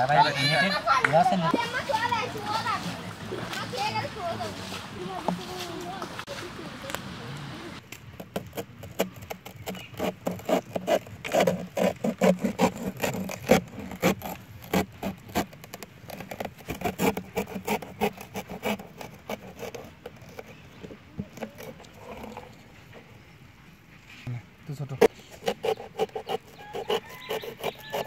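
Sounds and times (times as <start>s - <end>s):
sickle scraping banana trunk: 0.0s - 28.0s.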